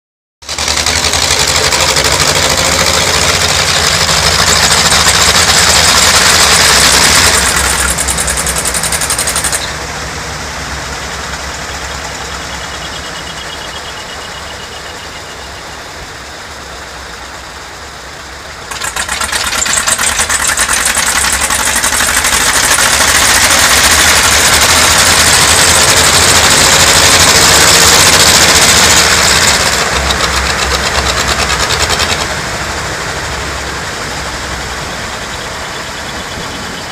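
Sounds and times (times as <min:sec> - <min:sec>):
tractor diesel engines knocking: 0:00.5 - 0:36.9.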